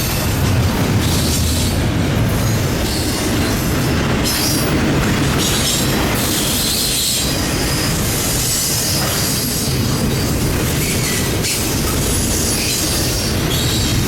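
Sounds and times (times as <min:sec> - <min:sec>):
train cars rumbling on rails: 0:00.0 - 0:14.0
train wheel squeal: 0:02.4 - 0:14.0.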